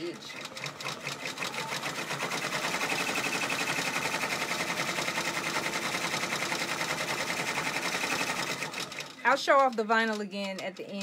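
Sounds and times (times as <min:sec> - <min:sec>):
embroidery machine stitching: 0:00.0 - 0:11.0.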